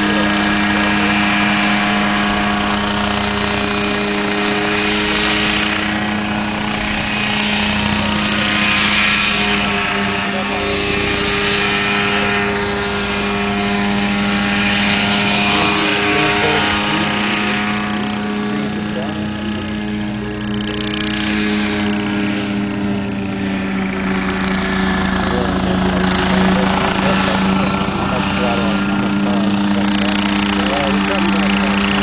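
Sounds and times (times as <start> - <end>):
helicopter engine and rotors drone: 0.0 - 32.0.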